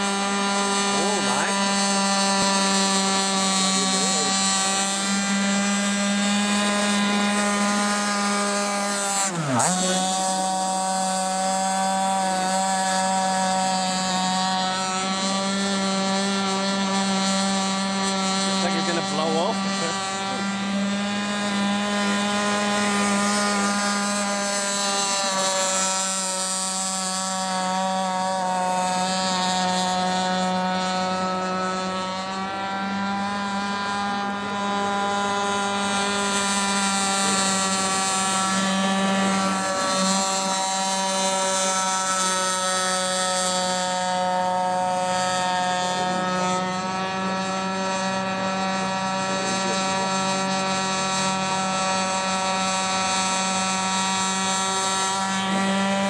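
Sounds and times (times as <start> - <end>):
small two-stroke engine buzzing: 0.0 - 56.0.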